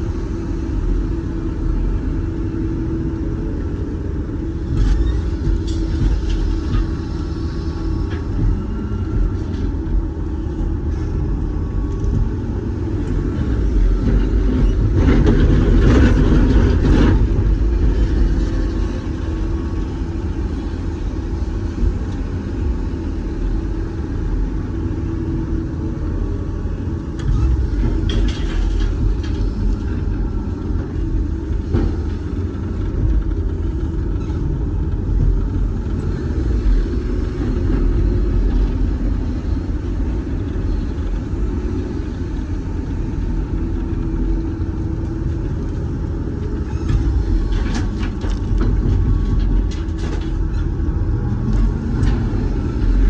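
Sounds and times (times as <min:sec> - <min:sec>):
excavator engine rumbling: 0:00.0 - 0:53.0.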